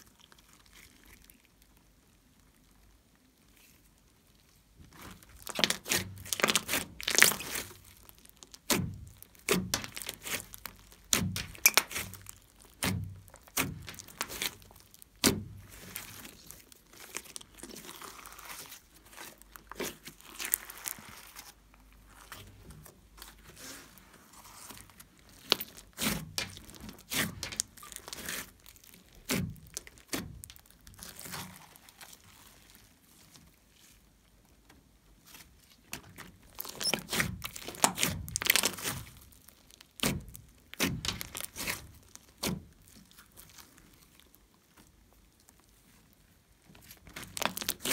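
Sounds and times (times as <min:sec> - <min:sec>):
slime popping and crackling: 0:00.0 - 0:34.4, 0:35.2 - 0:47.9
slime squishing: 0:00.0 - 0:47.9.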